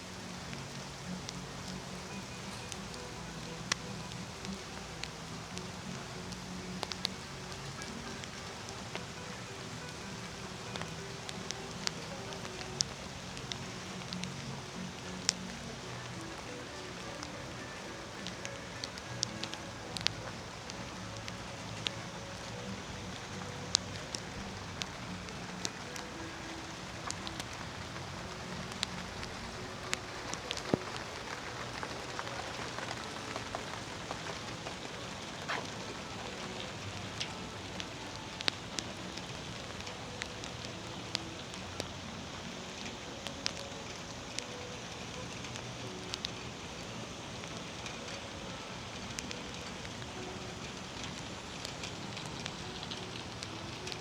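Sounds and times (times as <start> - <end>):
rain falling: 0.0 - 54.0
raindrops ticking: 0.0 - 54.0.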